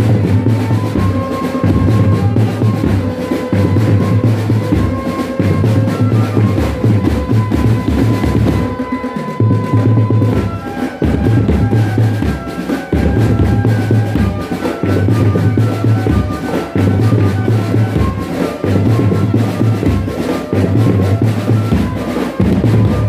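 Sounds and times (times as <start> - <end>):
drum band music: 0.0 - 23.0.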